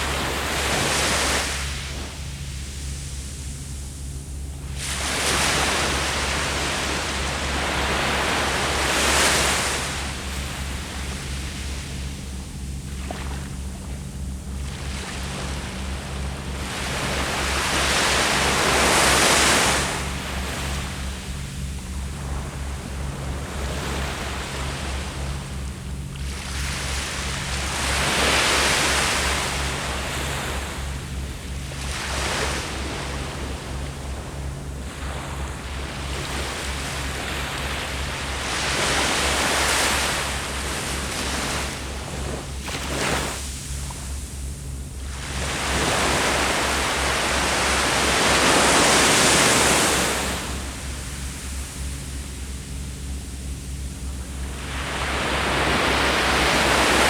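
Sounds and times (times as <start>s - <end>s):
low pulsing hum: 0.0s - 57.0s
sea waves breaking: 0.0s - 57.0s.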